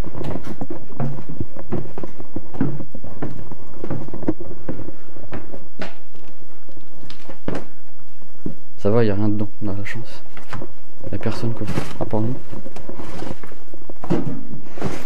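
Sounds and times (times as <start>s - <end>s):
footsteps on debris-strewn floor: 0.0s - 8.8s, 10.4s - 15.0s.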